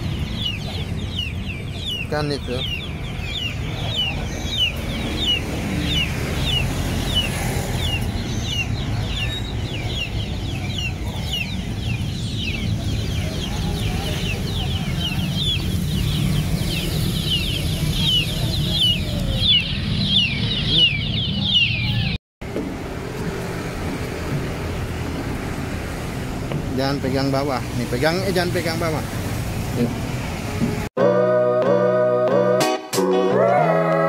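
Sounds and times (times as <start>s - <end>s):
birds chirping: 0.0s - 22.2s, 23.5s - 30.9s.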